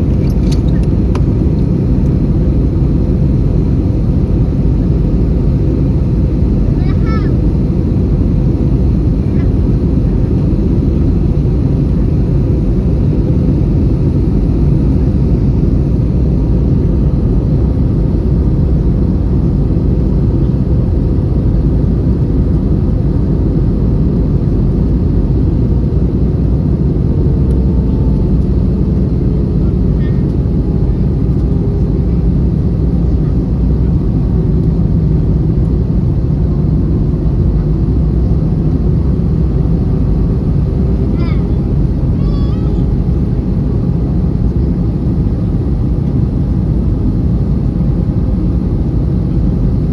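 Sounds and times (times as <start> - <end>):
jet engines and airflow rumble: 0.0 - 49.9.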